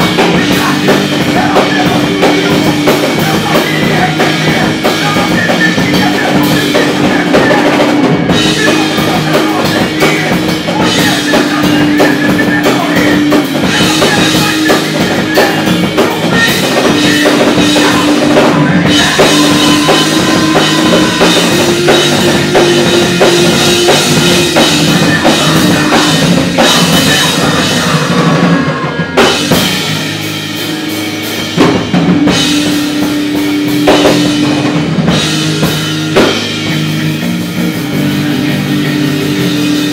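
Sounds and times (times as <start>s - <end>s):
hardcore band playing live: 0.0s - 39.9s.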